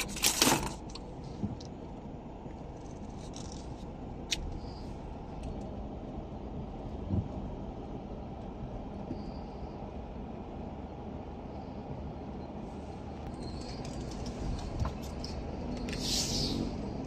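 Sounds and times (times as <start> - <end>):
car tyres on gravel road: 0.0 - 9.7, 12.6 - 17.0.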